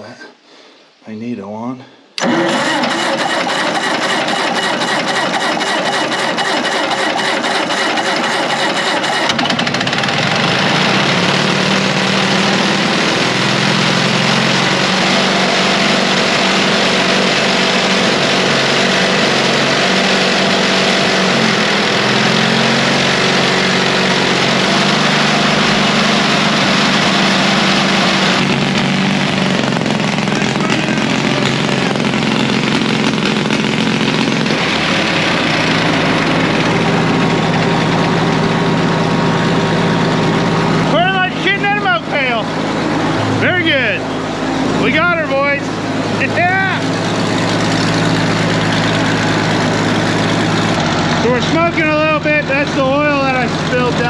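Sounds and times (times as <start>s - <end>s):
small gasoline engine running: 2.2s - 54.0s.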